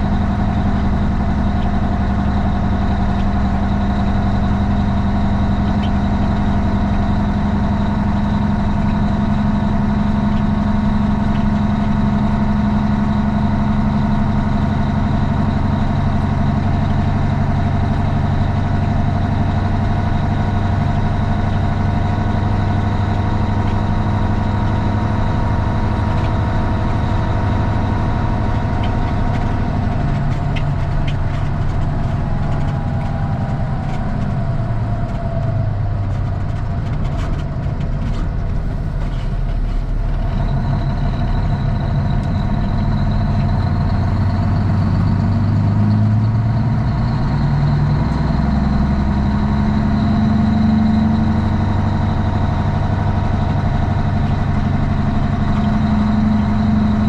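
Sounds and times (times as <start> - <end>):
diesel truck engine idling low: 0.0 - 57.0.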